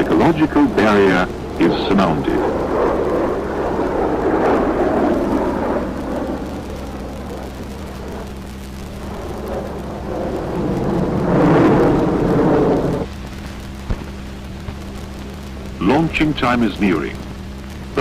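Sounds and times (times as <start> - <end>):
jet engine roar: 0.0 - 18.0
steady low hum: 0.0 - 18.0.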